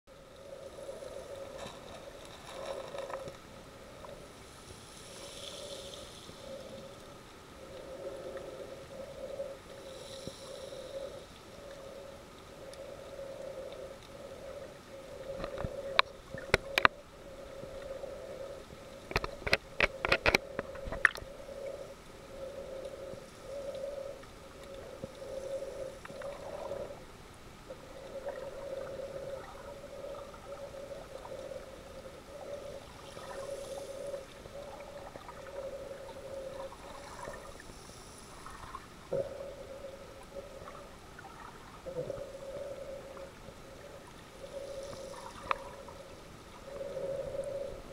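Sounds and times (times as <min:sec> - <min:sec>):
faint hiss: 0:00.1 - 0:47.9
underwater drone: 0:00.1 - 0:47.9.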